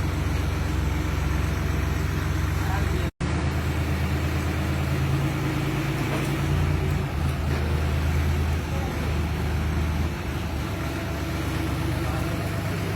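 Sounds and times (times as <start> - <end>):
crane engine droning: 0.0 - 12.9.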